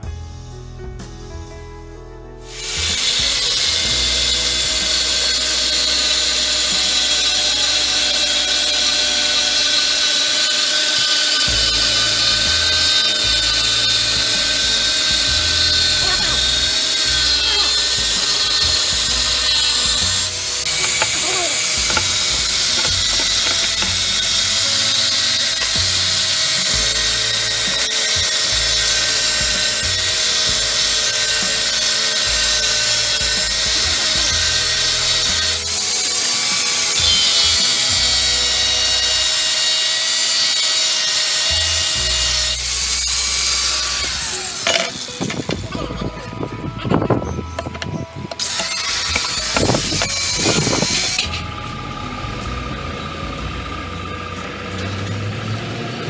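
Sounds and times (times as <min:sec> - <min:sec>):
angle grinder cutting metal: 0:02.5 - 0:56.0.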